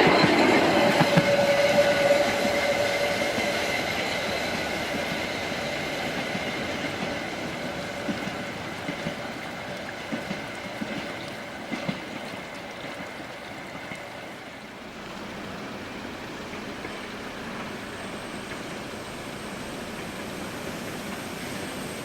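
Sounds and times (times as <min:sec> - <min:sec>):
train wheels knocking on rails: 0:00.0 - 0:14.2, 0:15.2 - 0:22.0
train rushing rumble: 0:00.0 - 0:22.0.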